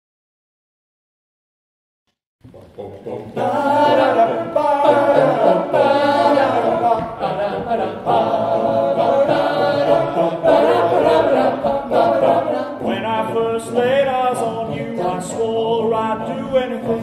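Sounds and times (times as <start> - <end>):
men singing a cappella: 2.6 - 17.0.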